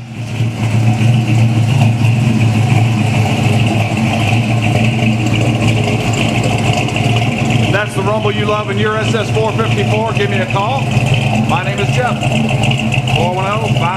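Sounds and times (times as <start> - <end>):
car engine running rumble: 0.0 - 13.9.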